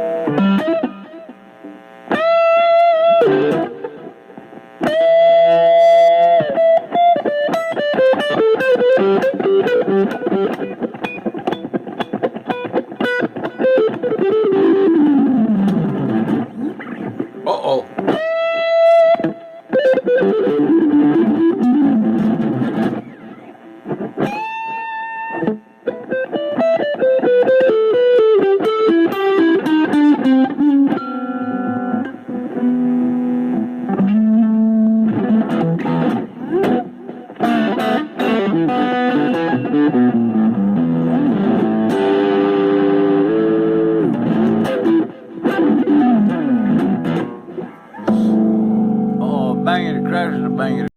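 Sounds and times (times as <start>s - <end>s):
electric guitar with effects: 0.0s - 50.9s.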